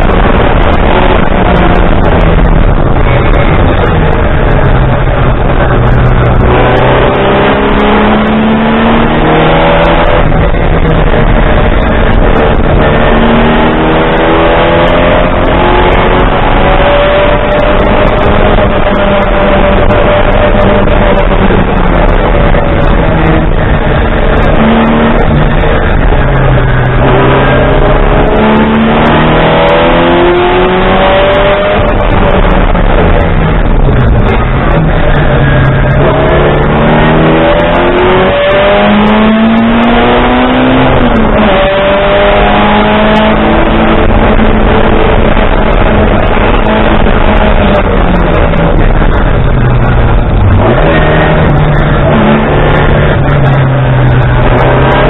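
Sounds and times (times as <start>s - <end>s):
racing car engine at full load: 0.0s - 55.0s.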